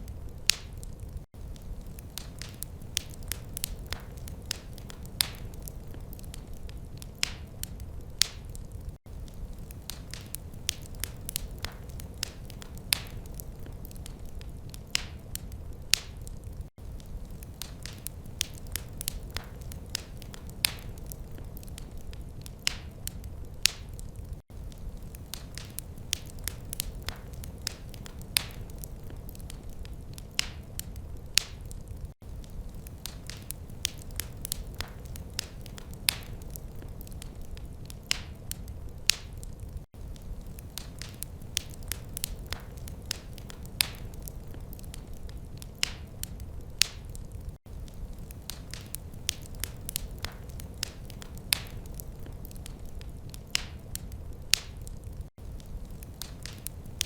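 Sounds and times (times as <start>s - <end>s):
low rumble of burning logs: 0.0s - 57.0s
wood fire crackling: 0.0s - 57.0s.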